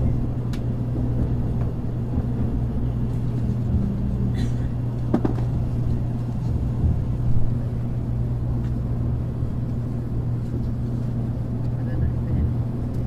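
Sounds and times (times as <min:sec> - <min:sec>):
train interior hum: 0:00.0 - 0:13.0.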